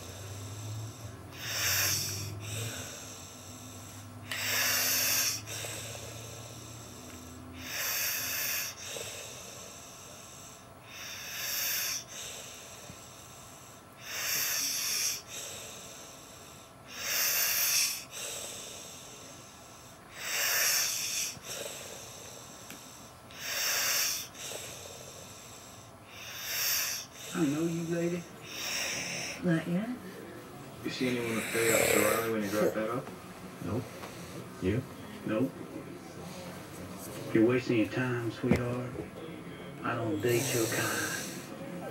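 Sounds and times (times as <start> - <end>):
man snoring: 0.0 - 29.6, 30.9 - 33.0, 39.9 - 41.9.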